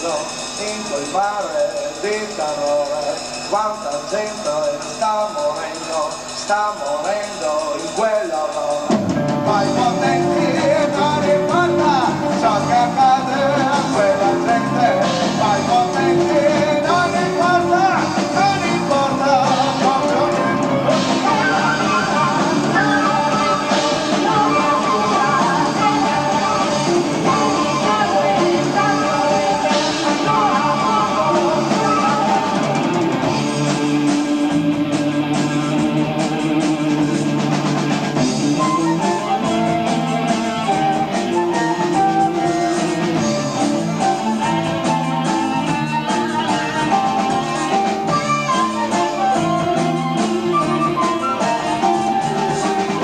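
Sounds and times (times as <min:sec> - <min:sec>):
bass: 0:00.0 - 0:53.0
drums: 0:00.0 - 0:53.0
electric guitar: 0:00.0 - 0:53.0
keyboards: 0:00.0 - 0:53.0.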